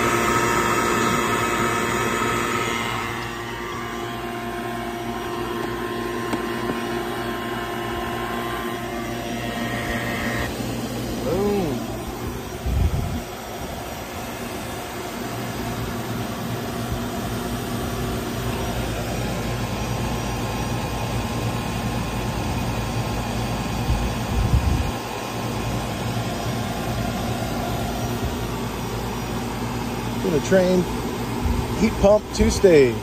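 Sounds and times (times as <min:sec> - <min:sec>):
vacuum pump humming: 0:00.0 - 0:33.0.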